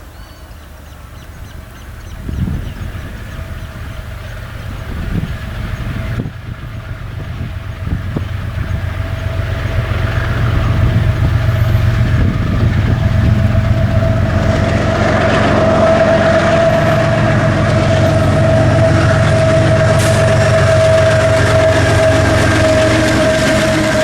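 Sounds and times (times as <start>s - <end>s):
diesel locomotives rumbling: 0.0s - 24.0s
steady high whine: 2.3s - 24.0s.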